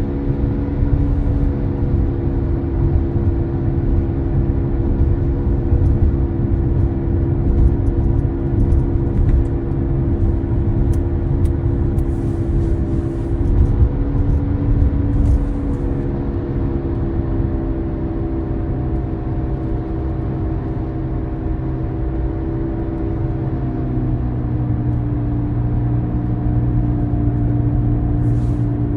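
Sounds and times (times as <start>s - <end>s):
road rumble: 0.0s - 28.9s.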